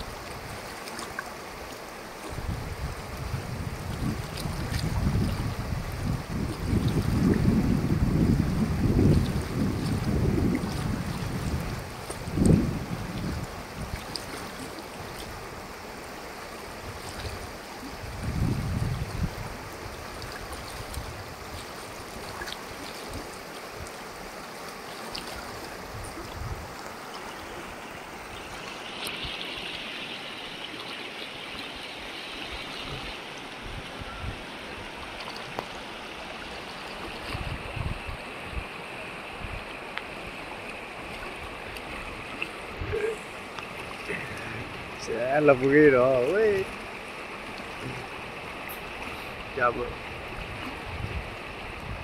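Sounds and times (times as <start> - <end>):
river rushing over boulders: 0.0 - 52.0.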